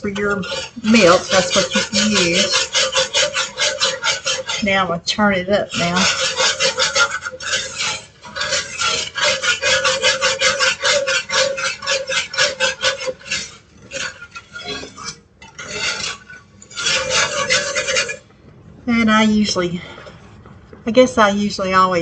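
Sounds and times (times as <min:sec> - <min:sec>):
utensil scraping pan bottom: 0:00.0 - 0:18.3.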